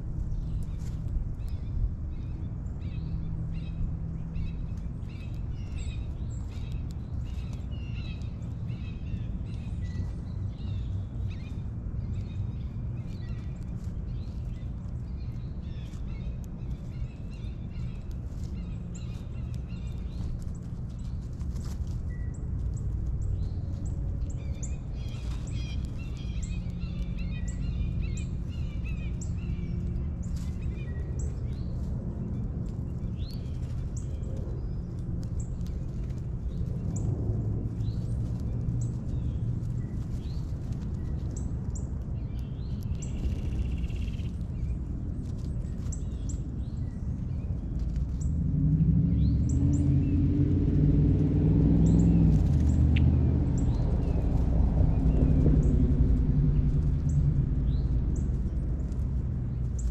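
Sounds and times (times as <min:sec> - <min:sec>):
low outdoor rumble: 0:00.0 - 0:59.9
songbirds chirping: 0:00.0 - 0:59.9.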